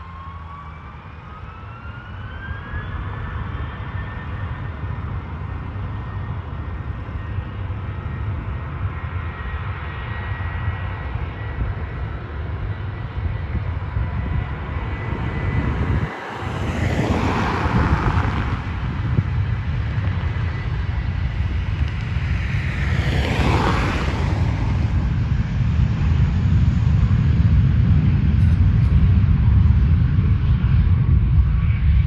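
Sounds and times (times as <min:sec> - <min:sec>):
distant jet engines: 0:00.0 - 0:32.0
wind rumble on microphone: 0:00.0 - 0:32.0.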